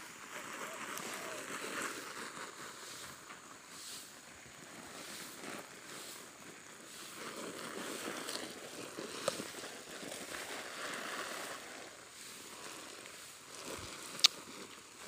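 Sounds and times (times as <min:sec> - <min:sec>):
hose spraying water onto sacks: 0:00.0 - 0:15.0.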